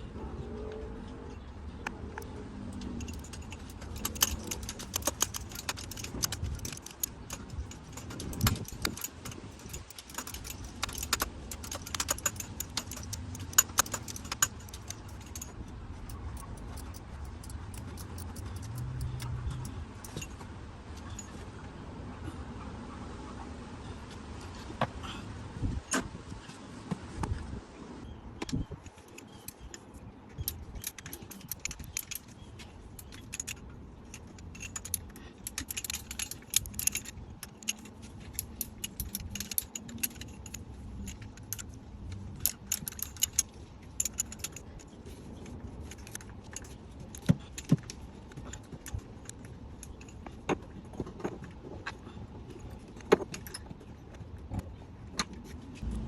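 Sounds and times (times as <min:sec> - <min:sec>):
metal objects clicking and jingling: 0:01.3 - 0:21.4, 0:28.5 - 0:56.0.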